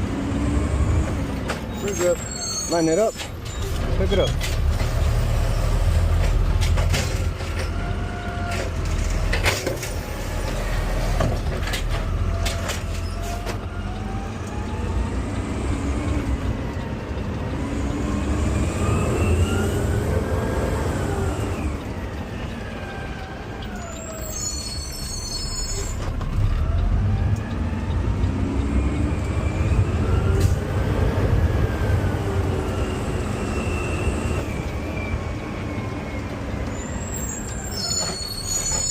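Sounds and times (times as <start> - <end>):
diesel engine under load: 0.0 - 38.9.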